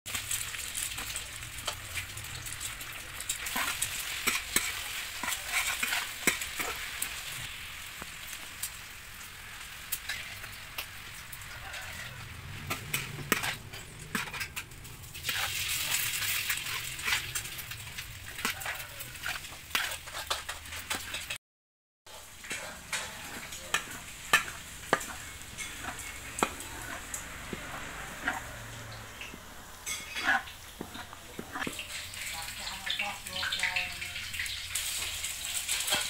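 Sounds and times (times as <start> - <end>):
oil sizzling in a wok: 0.1 - 21.4, 22.1 - 36.0
metal spatula scraping wok: 0.2 - 7.5, 9.4 - 21.4, 22.1 - 36.0.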